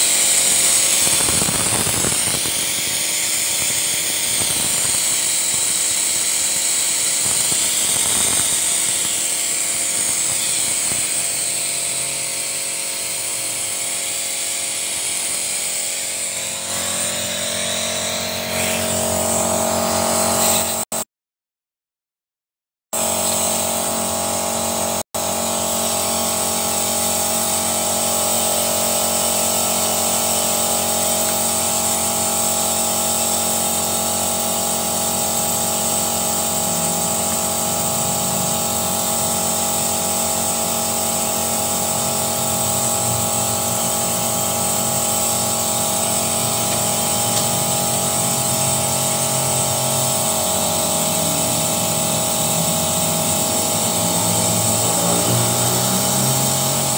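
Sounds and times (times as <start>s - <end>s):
cleaning machine drone with high whine: 0.0s - 20.9s, 23.0s - 56.9s.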